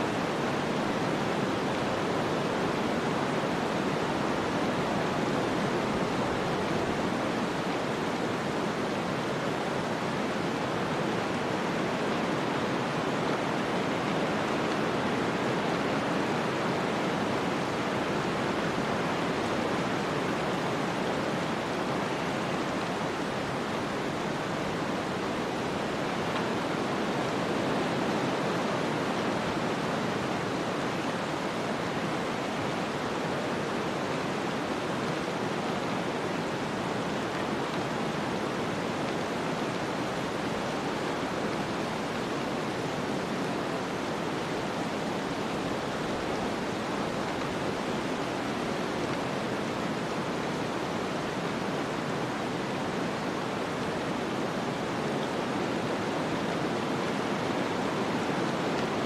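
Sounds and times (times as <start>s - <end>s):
snowstorm wind hiss: 0.0s - 59.0s.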